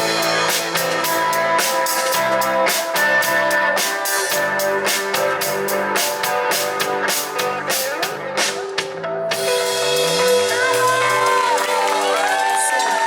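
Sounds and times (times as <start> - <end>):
held guitar and bass notes: 0.0 - 12.3
drum kit beat: 0.0 - 13.0.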